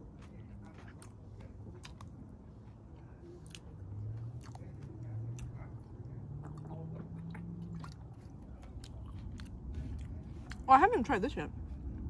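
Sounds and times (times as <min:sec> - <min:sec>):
chewing food with wet crunches: 0:00.0 - 0:12.0
low hum: 0:00.0 - 0:12.0.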